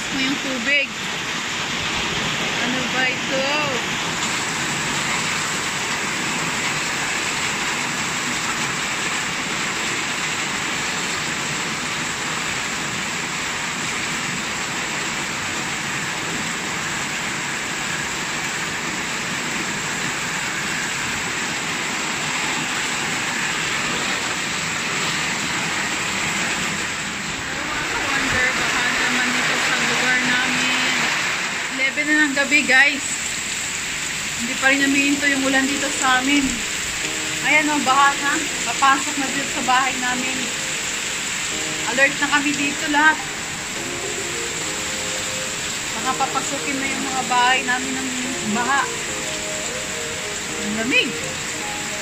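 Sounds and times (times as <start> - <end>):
heavy rain on flooded street: 0.0 - 52.0.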